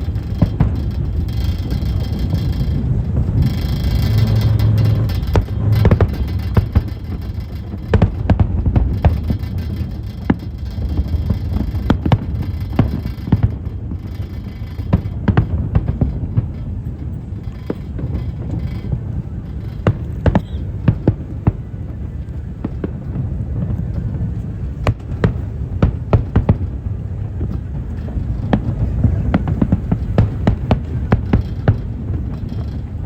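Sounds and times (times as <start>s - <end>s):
fireworks bangs and crackles: 0.0s - 33.0s
low rumble: 0.0s - 33.0s.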